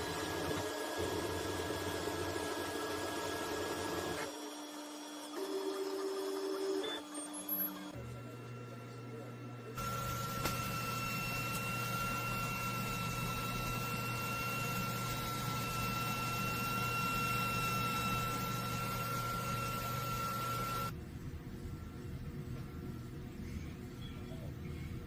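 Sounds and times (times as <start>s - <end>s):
printer running with hiss and whine: 0.0s - 25.0s.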